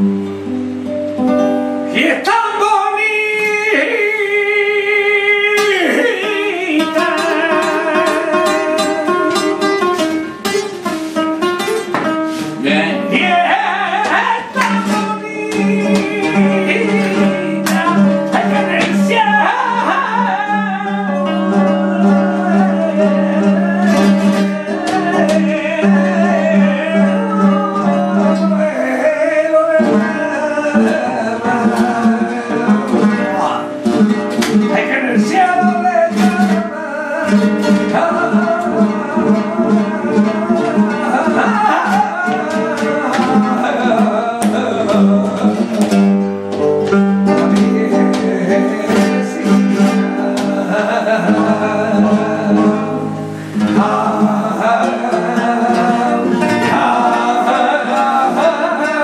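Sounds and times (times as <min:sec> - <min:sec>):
flamenco guitar: 0:00.0 - 0:59.0
man singing: 0:01.9 - 0:11.2, 0:12.0 - 0:59.0.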